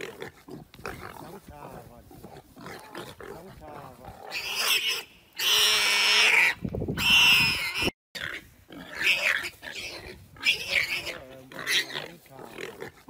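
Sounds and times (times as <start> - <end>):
warthog squealing: 0.0 - 13.0.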